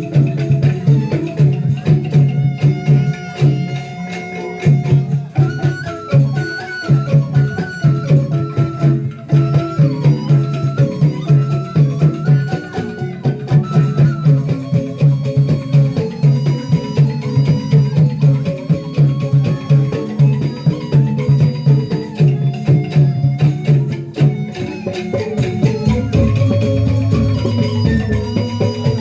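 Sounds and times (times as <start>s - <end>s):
folk music with percussion: 0.0s - 29.0s.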